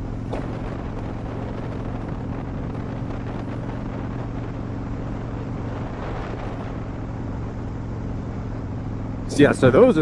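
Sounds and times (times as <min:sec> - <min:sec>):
wind rushing past microphone: 0:00.0 - 0:08.7
motorcycle engine cruising: 0:00.0 - 0:10.0.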